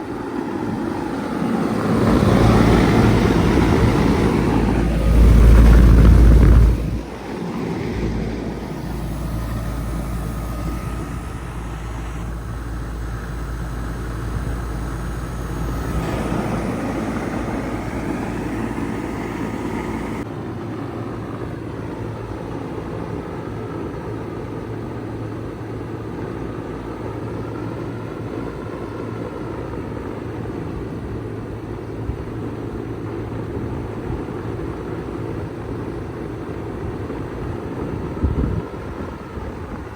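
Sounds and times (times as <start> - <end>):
heat pump hum and fan noise: 0.0 - 39.9.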